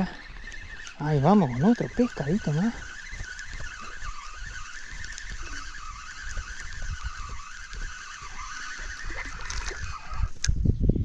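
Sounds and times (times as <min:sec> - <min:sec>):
fishing reel whirring: 0:00.0 - 0:10.5
wind buffeting the microphone: 0:00.0 - 0:11.0.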